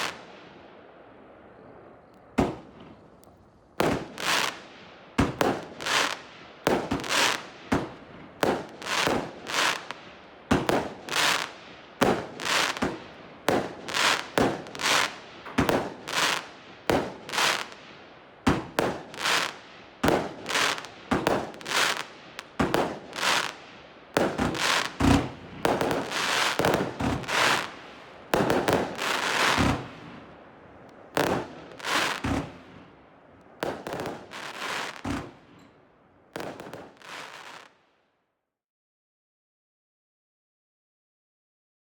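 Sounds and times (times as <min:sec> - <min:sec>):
fireworks bangs: 0:00.0 - 0:37.8.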